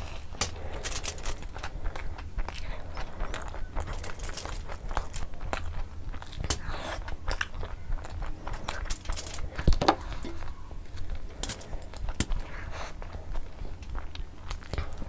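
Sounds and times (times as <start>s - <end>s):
wet chewing and mouth smacks: 0.0s - 15.0s.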